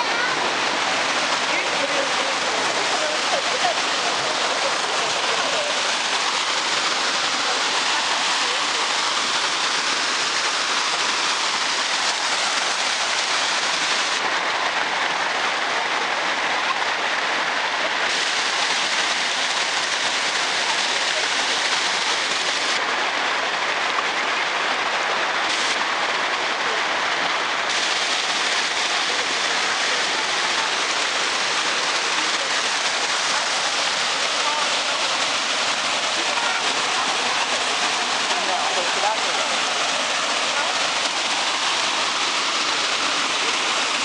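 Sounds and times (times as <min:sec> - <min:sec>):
water cascading over rocks: 0:00.0 - 0:44.0.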